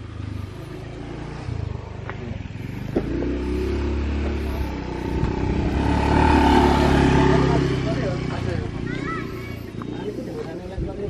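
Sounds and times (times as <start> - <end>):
motorcycle engine approaching: 0.0 - 11.0.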